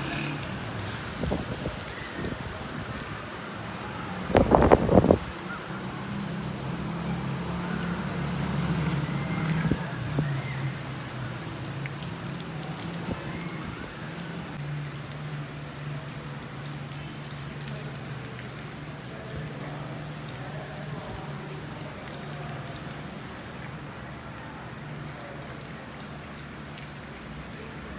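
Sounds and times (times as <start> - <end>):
rain falling on leaves: 0.0 - 27.9.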